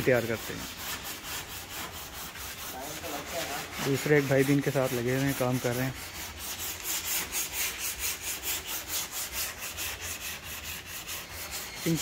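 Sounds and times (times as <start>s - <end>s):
sandpaper scratching: 0.0s - 12.0s.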